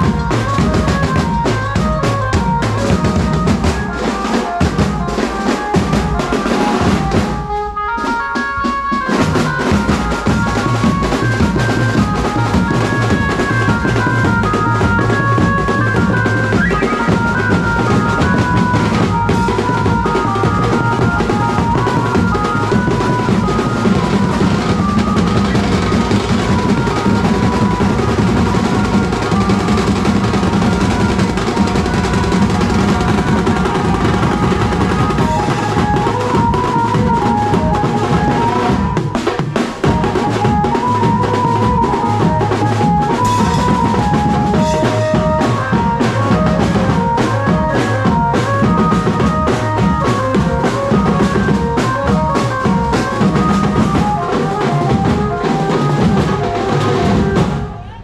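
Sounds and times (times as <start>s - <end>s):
amplified horn melody: 0.0s - 58.0s
fast drumming on drums: 0.0s - 58.0s.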